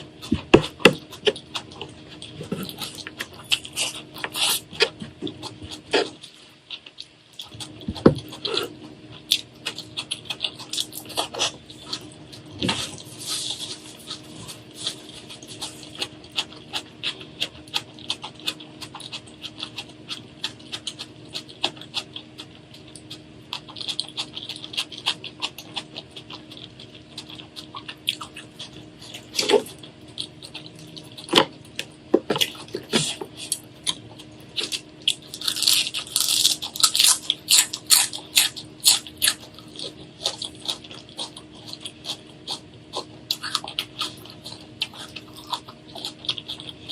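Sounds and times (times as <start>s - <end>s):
wet chewing: 0.0s - 46.9s
loud food crunches: 0.2s - 46.9s.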